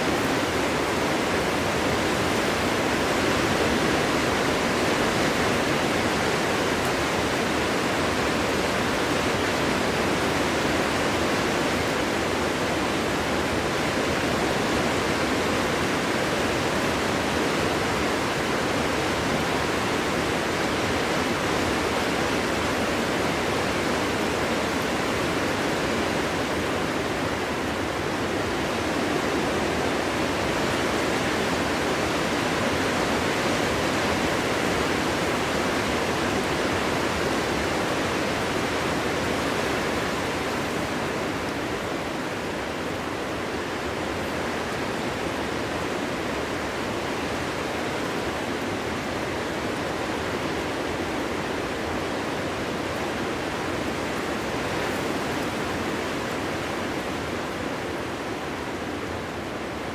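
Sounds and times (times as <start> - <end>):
wind through forest: 0.0 - 59.9.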